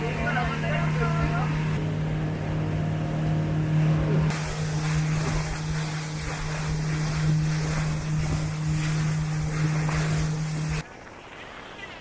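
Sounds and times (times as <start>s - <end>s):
motorboat engine droning: 0.0s - 10.8s
water rushing past hull: 0.0s - 12.0s.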